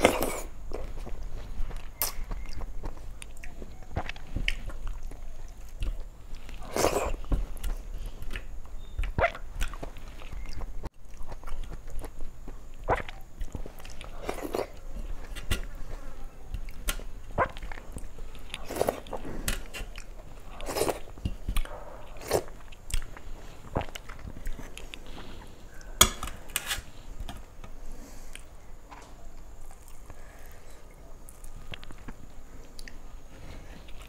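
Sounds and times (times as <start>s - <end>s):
person chewing food: 0.0s - 28.6s, 29.3s - 34.0s.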